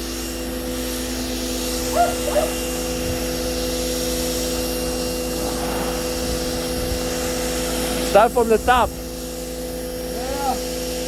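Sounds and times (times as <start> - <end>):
pressure washer motor humming: 0.0 - 11.0.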